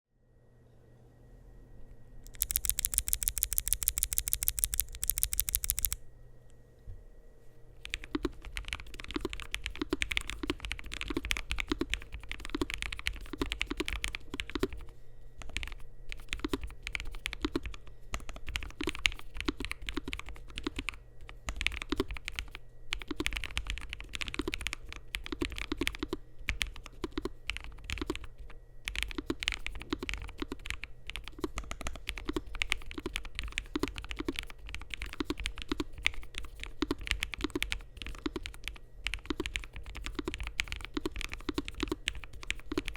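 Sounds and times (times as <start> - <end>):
mechanical keyboard typing: 2.3 - 6.0, 7.8 - 42.9.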